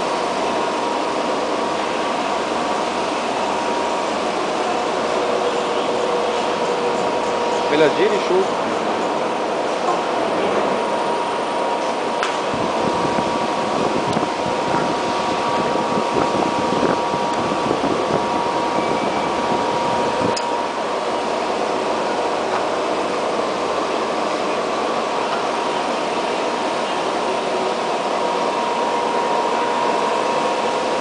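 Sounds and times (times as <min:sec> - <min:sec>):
thin high hum: 0:00.0 - 0:31.0.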